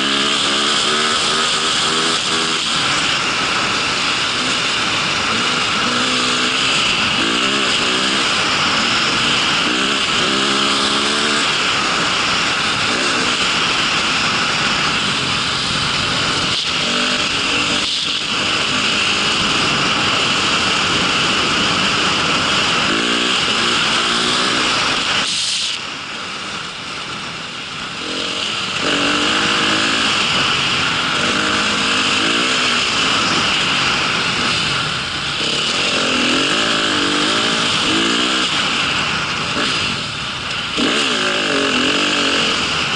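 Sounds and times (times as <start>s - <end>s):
small engine revving: 0.0s - 25.8s, 27.9s - 42.9s
constant rushing noise: 0.0s - 42.9s.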